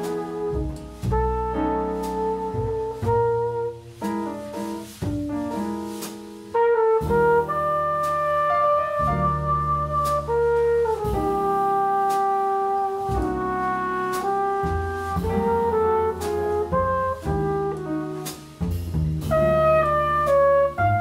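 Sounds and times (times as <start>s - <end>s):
flugelhorn melody: 0.0s - 5.0s, 6.5s - 21.0s
drums: 0.0s - 21.0s
piano: 0.0s - 21.0s
walking double bass: 0.0s - 21.0s.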